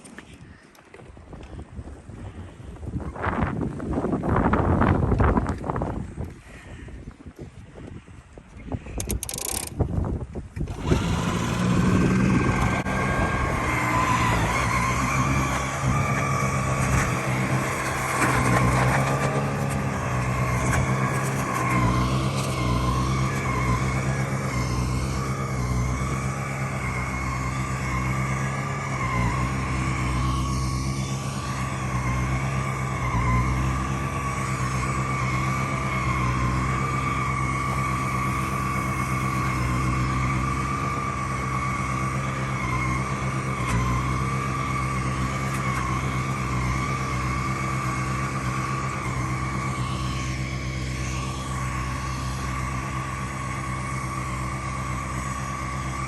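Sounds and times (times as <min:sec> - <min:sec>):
electric snowblower running: 0:10.6 - 0:56.0.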